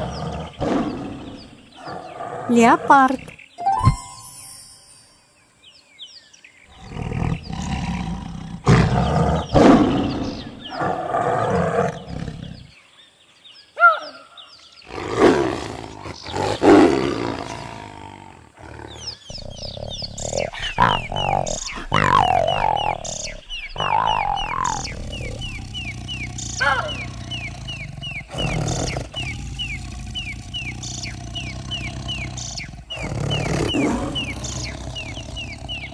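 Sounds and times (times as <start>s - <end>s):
leopard growling roars: 0.0s - 3.0s, 6.7s - 12.8s, 14.8s - 35.9s
faint birds chirping: 0.0s - 35.9s.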